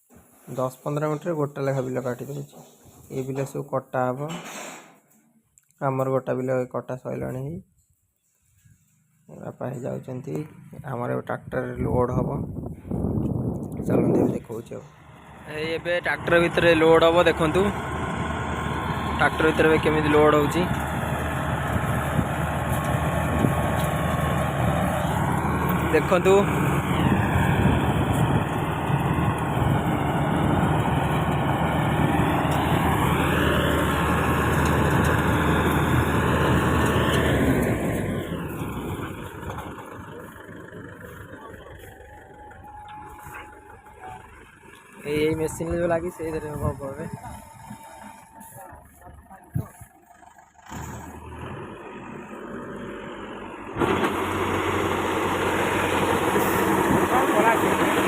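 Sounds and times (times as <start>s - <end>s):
combine harvester engine: 9.0s - 58.0s.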